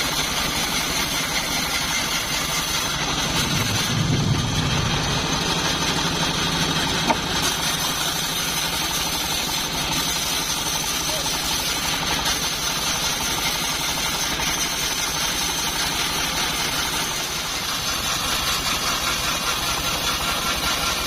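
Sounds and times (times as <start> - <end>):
bandsaw mill engine humming: 0.0 - 21.0.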